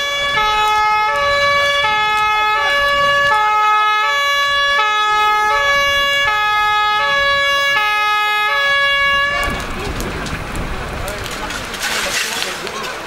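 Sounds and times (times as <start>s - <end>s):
two-tone fire engine siren: 0.0s - 10.5s.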